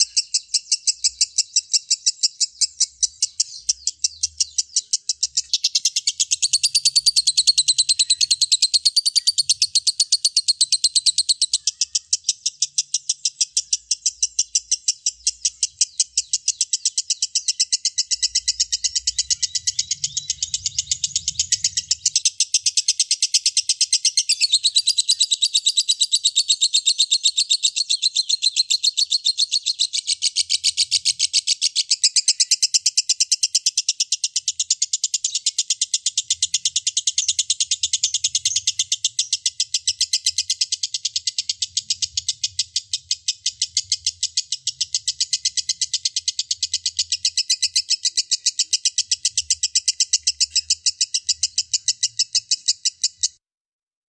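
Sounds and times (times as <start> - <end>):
lovebird chirping rapidly: 0.0 - 53.4.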